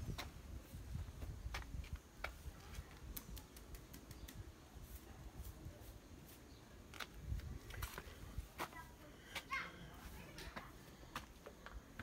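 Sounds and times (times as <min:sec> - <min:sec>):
faint footsteps: 0:00.0 - 0:03.4, 0:04.7 - 0:12.0.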